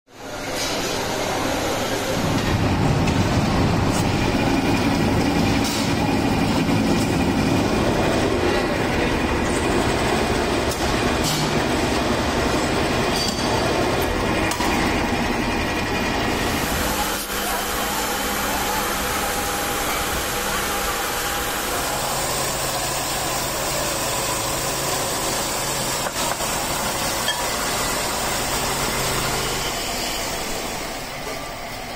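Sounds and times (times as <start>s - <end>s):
factory machinery rumbling and rattling: 0.1s - 31.9s.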